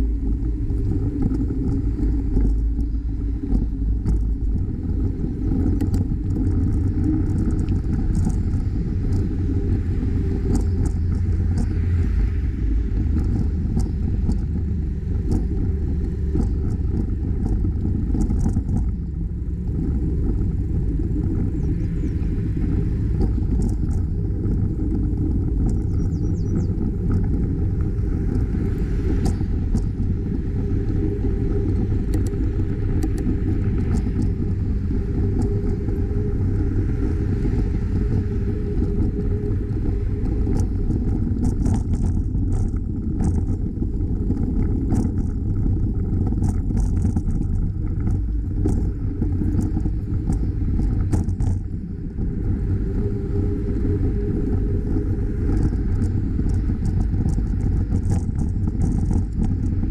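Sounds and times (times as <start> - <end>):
small clicks and rattles: 0.0 - 52.4, 53.8 - 59.9
bicycle tyre noise: 0.0 - 59.9
wind on microphone: 0.0 - 59.9.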